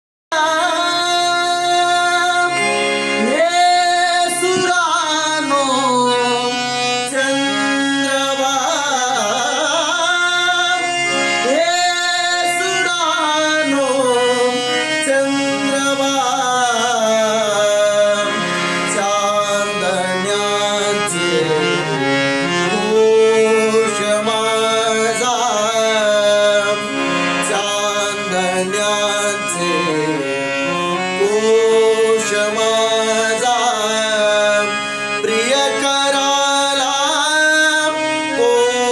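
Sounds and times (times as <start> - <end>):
instrumental accompaniment: 0.3 - 38.9
man singing devotional song: 0.3 - 38.9.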